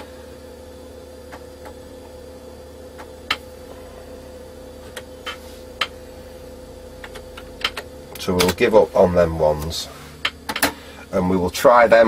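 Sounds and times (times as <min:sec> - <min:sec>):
computer humming: 0:00.0 - 0:12.0.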